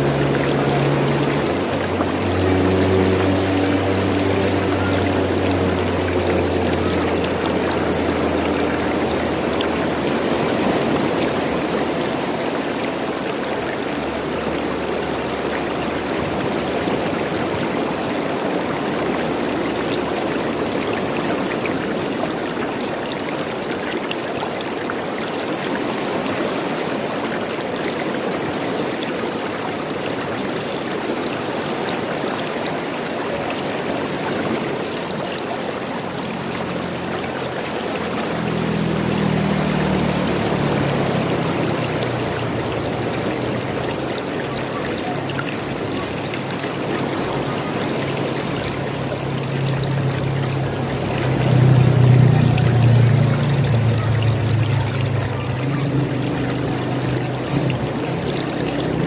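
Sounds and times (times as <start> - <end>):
running water gurgling: 0.0 - 59.0.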